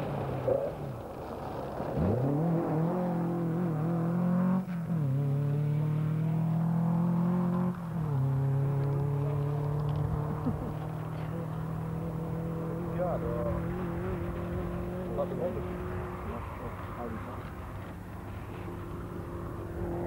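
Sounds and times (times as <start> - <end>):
rally car engine at high revs: 0.1 - 20.0.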